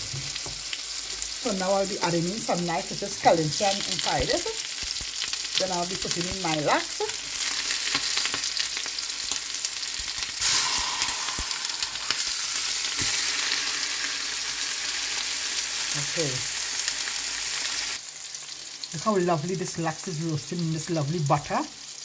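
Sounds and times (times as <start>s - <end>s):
fish sizzling in a pan: 0.0s - 22.0s.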